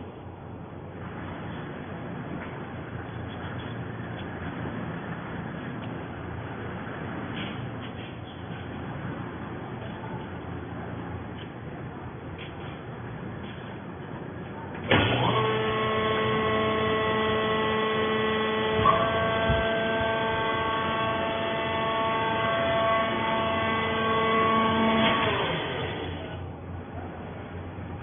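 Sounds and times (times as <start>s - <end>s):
baler motor and pump hum: 0.0s - 28.0s.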